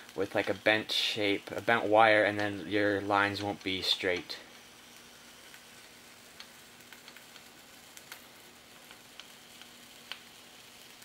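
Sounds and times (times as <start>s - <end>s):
crackling ticks of foam on hot wire: 0.0s - 11.0s.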